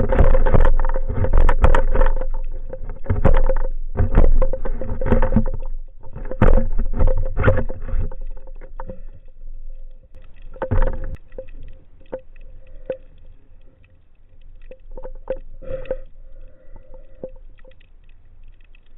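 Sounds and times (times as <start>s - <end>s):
water rushing and splashing: 0.0s - 9.1s, 10.1s - 18.9s
faint steady hum: 0.0s - 18.9s.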